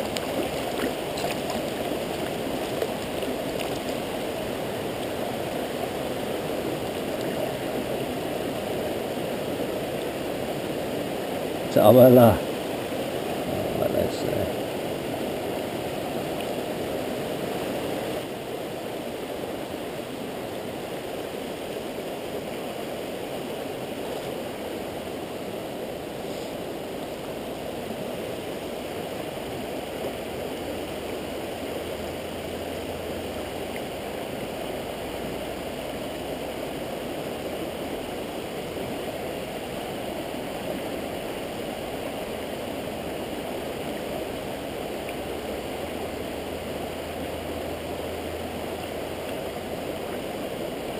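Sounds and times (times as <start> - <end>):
river rushing over rocks: 0.0 - 50.9.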